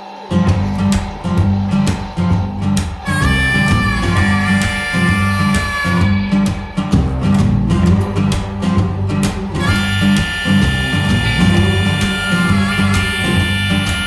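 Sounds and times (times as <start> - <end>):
instrumental rock music: 0.3 - 14.0.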